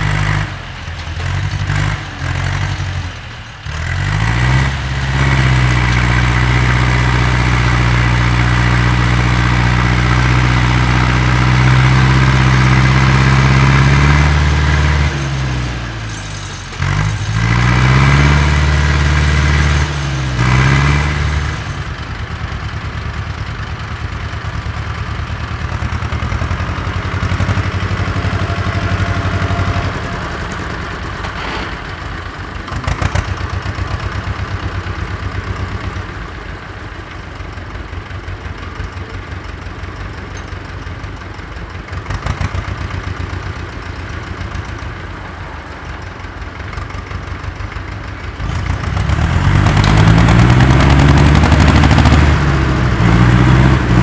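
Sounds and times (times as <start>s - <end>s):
tractor diesel engine under load: 0.0s - 54.0s
tractor engine idling: 0.0s - 54.0s.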